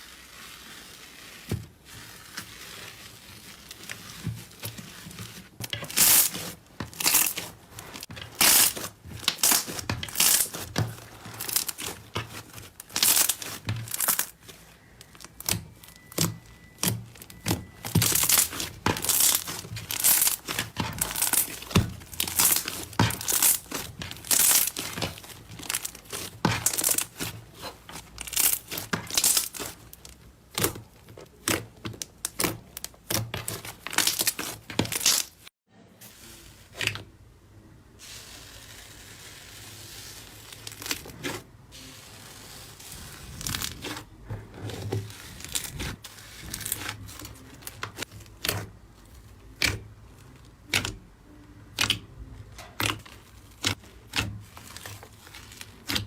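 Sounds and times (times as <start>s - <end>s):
slime crackling and tearing: 0.0s - 35.5s, 45.1s - 51.0s, 51.6s - 56.0s.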